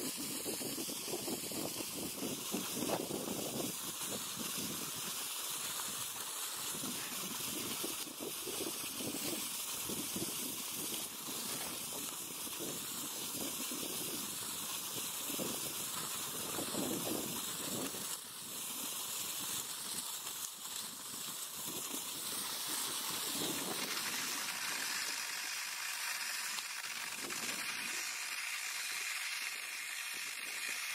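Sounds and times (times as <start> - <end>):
skis hissing on snow: 0.0 - 30.9.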